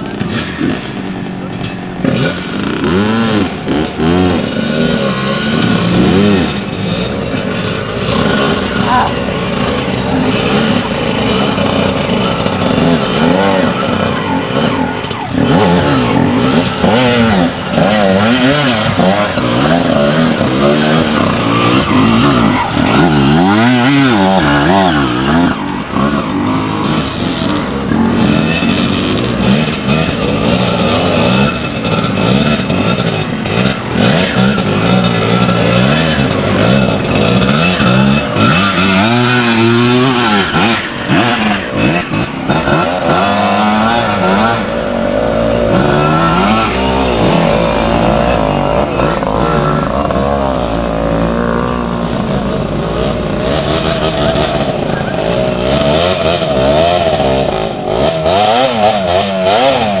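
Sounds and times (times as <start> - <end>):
dirt bike engines revving: 0.0 - 60.0.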